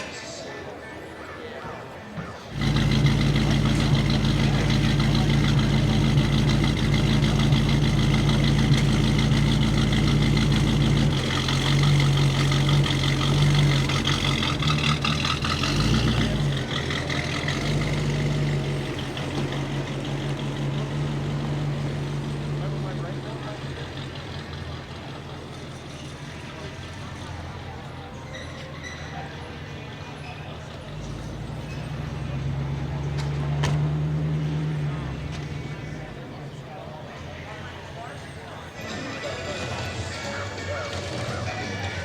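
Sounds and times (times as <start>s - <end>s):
car engine starting and idling: 2.5s - 37.8s.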